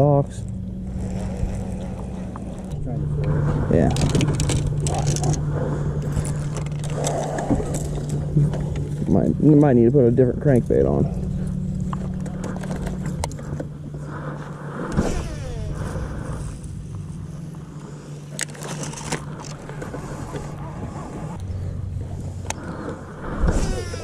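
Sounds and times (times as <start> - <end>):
electric motor humming: 0.4 - 24.0.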